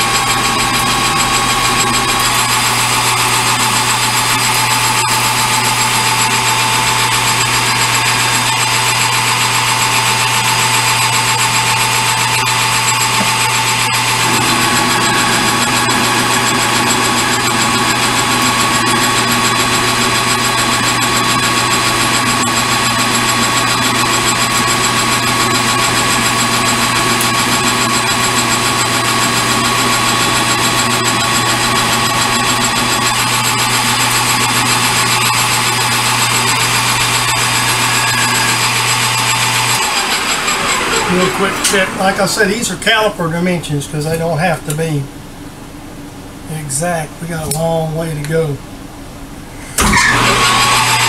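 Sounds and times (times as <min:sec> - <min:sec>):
metal lathe humming: 0:00.0 - 0:43.2, 0:49.6 - 0:51.0.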